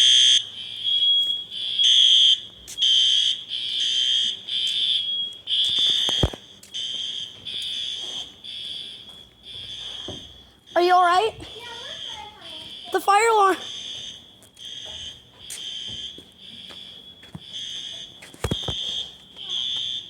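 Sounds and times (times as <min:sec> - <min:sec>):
fire alarm horn blasts: 0:00.0 - 0:20.0.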